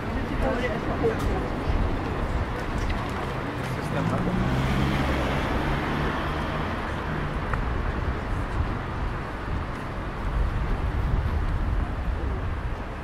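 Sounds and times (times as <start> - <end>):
traffic rumble: 0.0 - 13.0
vehicles passing: 0.0 - 13.0.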